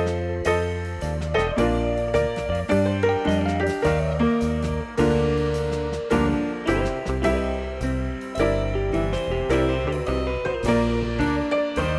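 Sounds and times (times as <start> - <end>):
instrumental keyboard music: 0.0 - 11.9.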